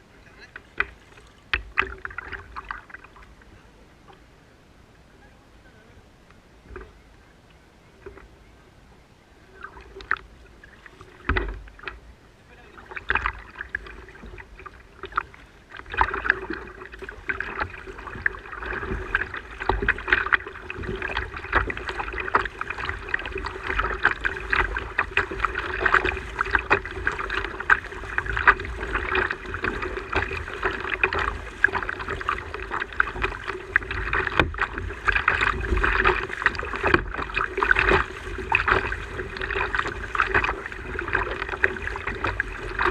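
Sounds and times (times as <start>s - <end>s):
water splashing against hull: 0.0s - 4.4s, 6.6s - 8.5s, 9.4s - 42.9s.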